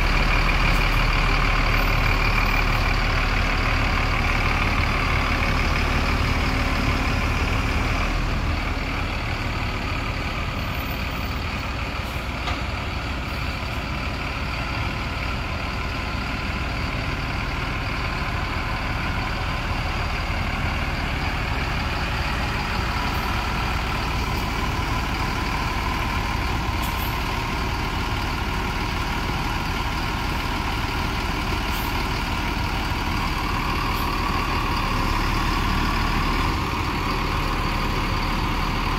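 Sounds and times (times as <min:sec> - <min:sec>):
heavy engine humming: 0:00.0 - 0:38.9.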